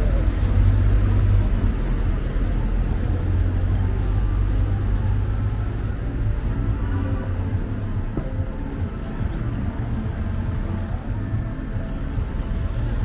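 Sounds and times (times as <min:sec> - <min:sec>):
faint voices: 0:00.0 - 0:13.0
traffic rumble: 0:00.0 - 0:13.0.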